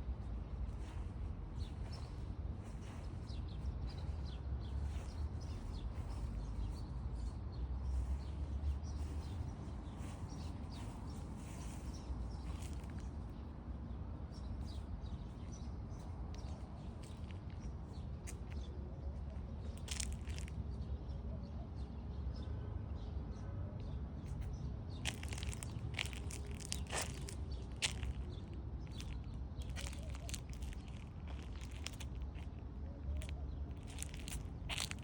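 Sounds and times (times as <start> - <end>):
steady low rumble: 0.0 - 20.6, 25.0 - 35.0
small birds chirping: 0.0 - 22.4, 23.8 - 35.0.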